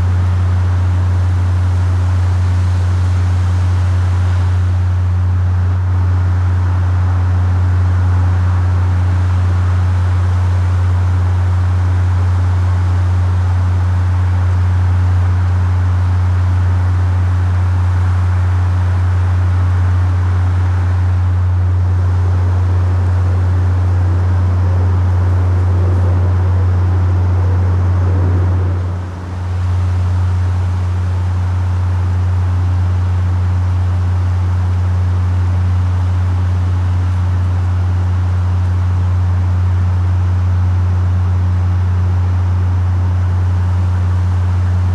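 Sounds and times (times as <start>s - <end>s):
low-frequency hum: 0.0s - 44.9s.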